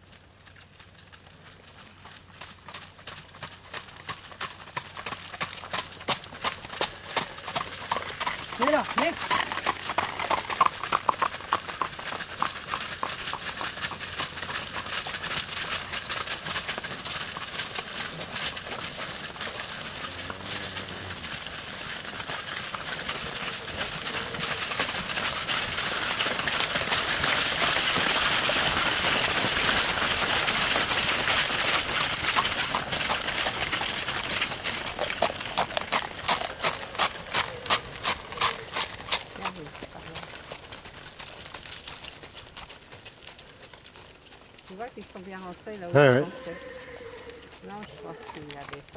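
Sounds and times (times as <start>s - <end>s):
cattle hooves clattering on pavement: 0.0s - 48.9s
horse hooves clip-clopping: 0.0s - 48.9s.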